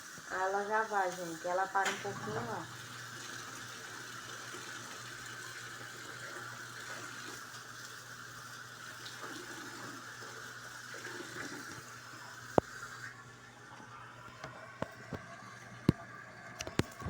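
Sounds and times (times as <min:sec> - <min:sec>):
water rushing in washing machine: 0:00.0 - 0:17.0.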